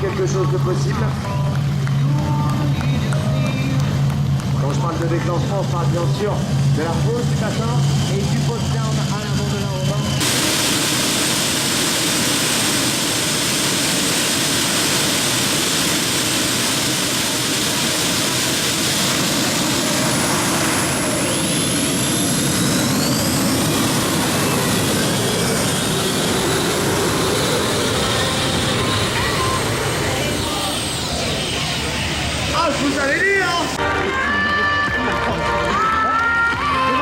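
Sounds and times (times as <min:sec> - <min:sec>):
high whine: 0:00.0 - 0:37.0
rising whine: 0:00.0 - 0:37.0
tractor engine roaring: 0:00.0 - 0:37.0.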